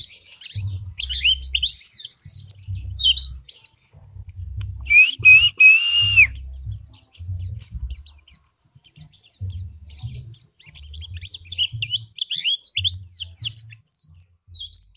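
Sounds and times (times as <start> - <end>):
small bird singing fast chirps: 0.0 - 14.9.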